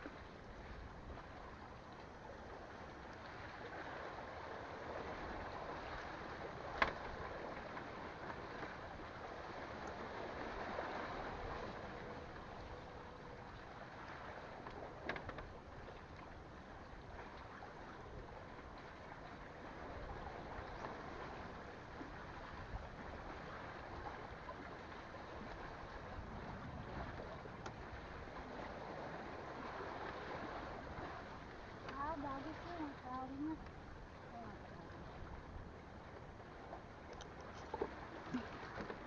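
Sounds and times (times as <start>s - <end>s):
seawater lapping: 0.0s - 39.0s
wind: 0.0s - 39.0s.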